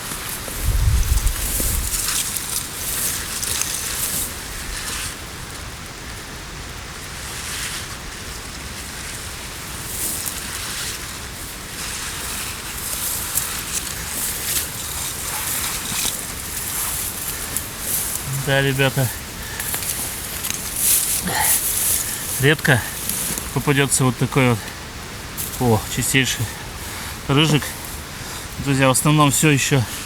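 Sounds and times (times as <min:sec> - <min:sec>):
wind rustling through foliage: 0:00.0 - 0:30.0.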